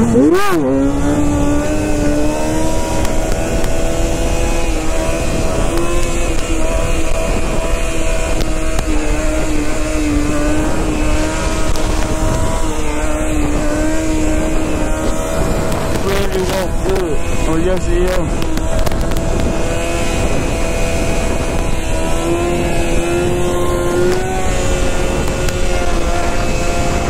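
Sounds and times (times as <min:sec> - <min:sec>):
dirt bike engine running: 0:00.0 - 0:27.0
wind noise on microphone: 0:00.0 - 0:27.0.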